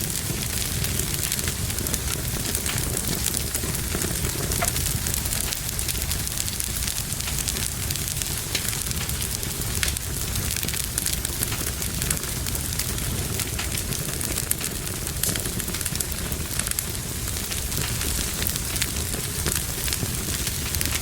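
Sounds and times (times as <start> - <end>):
fire crackling and popping: 0.0 - 21.0
fire low rumble: 0.0 - 21.0.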